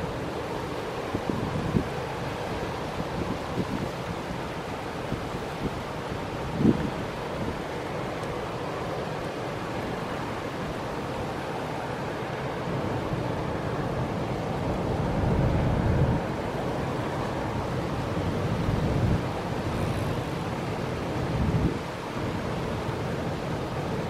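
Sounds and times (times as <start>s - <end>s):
wind buffeting microphone: 0.0s - 8.1s, 12.2s - 23.8s.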